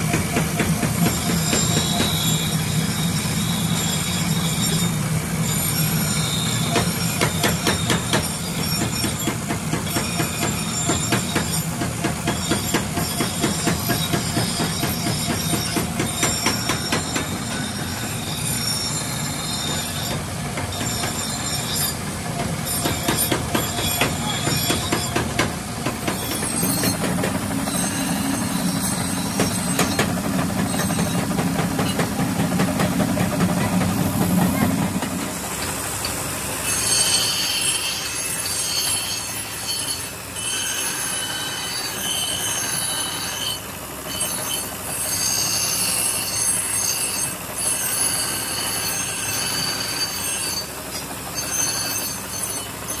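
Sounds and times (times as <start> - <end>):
grinding wheel humming: 0.0 - 53.0
metal grinding screech with rattling: 0.0 - 53.0.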